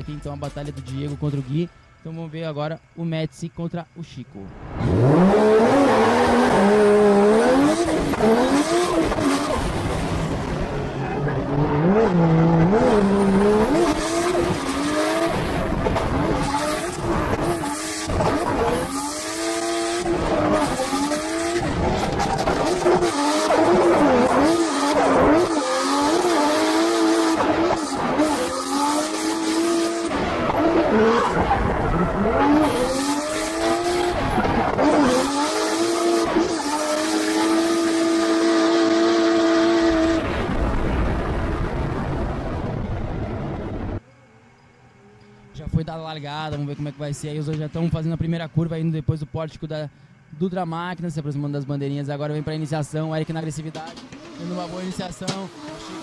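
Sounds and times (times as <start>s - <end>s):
car engine revving: 4.5s - 48.2s, 52.2s - 56.0s.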